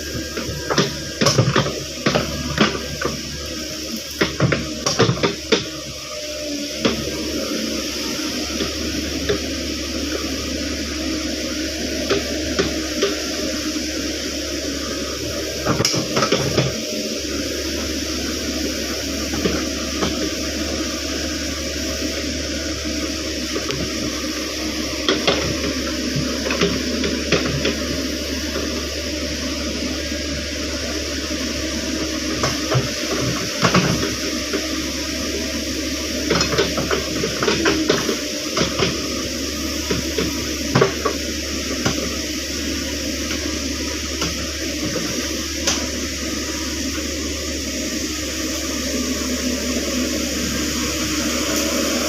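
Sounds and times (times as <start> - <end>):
mini excavator running: 0.0 - 52.0.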